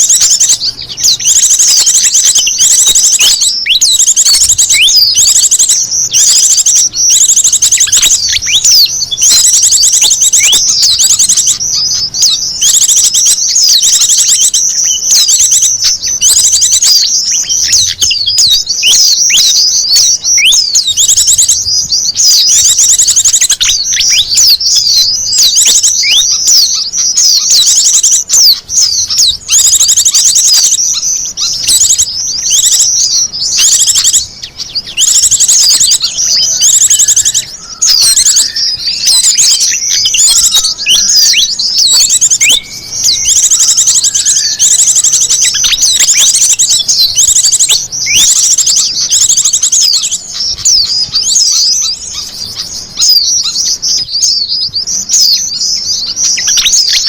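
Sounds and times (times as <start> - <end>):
small birds chirping and trilling: 0.0 - 57.0.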